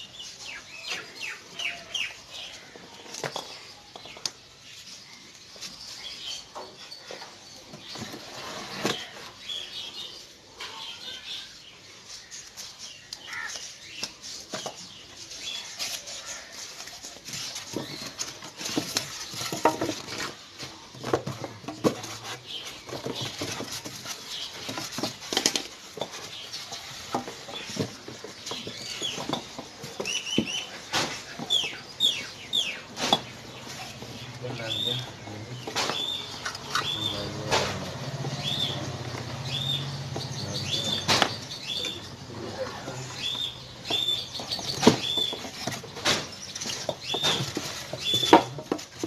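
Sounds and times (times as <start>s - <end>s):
bird chirping: 0.0s - 49.0s.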